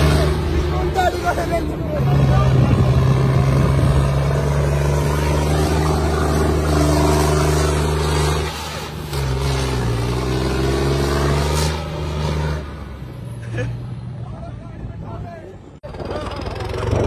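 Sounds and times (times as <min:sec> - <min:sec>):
tractor diesel engine: 0:00.0 - 0:14.0, 0:14.7 - 0:17.0.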